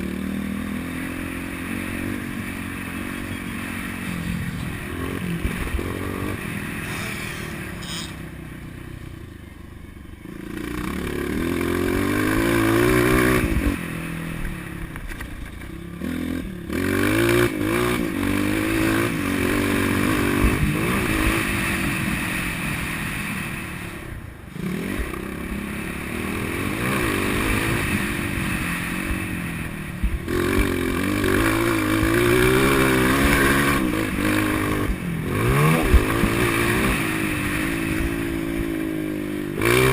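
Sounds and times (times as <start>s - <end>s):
motocross bike engine revving: 0.0s - 8.9s, 10.3s - 14.9s, 15.6s - 39.9s.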